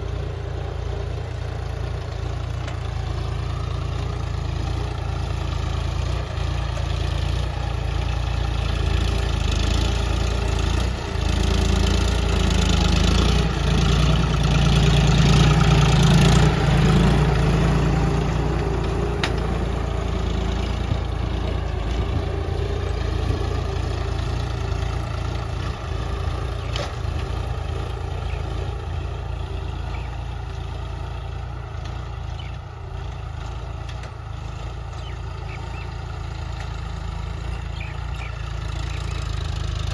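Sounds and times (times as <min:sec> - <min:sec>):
tractor diesel engine: 0:00.0 - 0:39.9.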